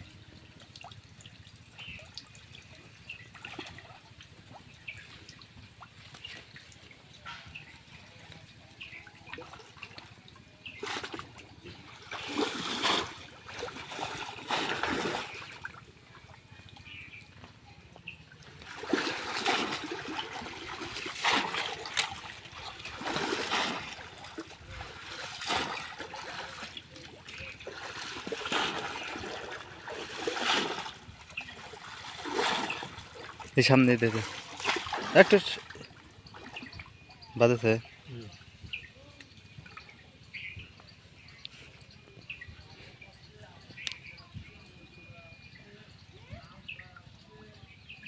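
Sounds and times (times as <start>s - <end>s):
pond water splashing: 0.0s - 47.9s.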